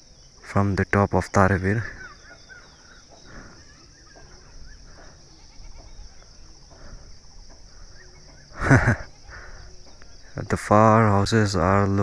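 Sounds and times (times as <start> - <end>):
faint chirps: 0.0 - 12.0
high insect buzz: 0.0 - 12.0.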